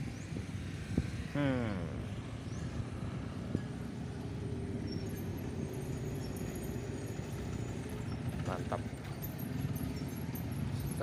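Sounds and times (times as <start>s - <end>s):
motorcycles passing: 0.0s - 11.0s.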